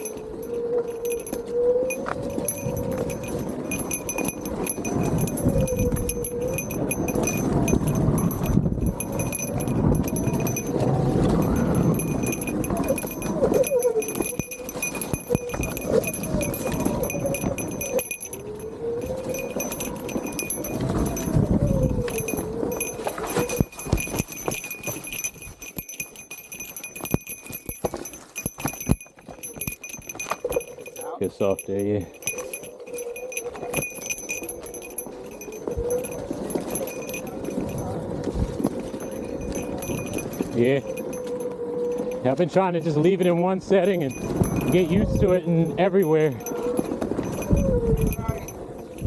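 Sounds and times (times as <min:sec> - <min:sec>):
bike metallic jingling and rattling: 0:00.0 - 0:49.0.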